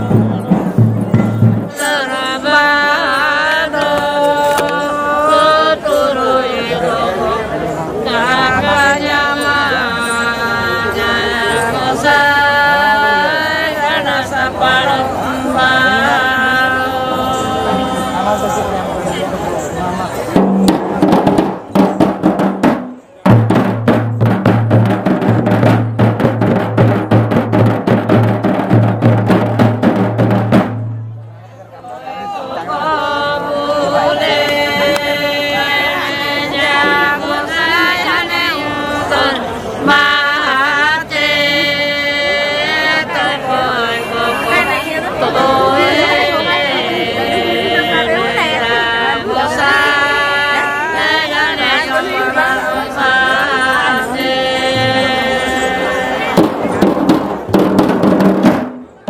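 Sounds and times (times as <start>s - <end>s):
unaccompanied voices singing: 0.0s - 30.8s, 31.7s - 58.2s.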